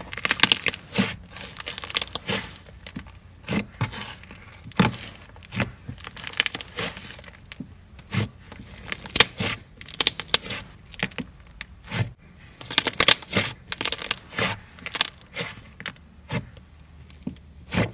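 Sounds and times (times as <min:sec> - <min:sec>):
hands kneading slime: 0:00.0 - 0:17.9.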